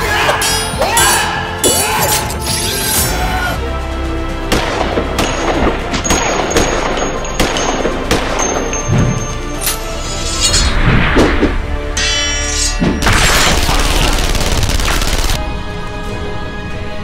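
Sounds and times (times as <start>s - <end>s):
action film music: 0.0s - 17.0s.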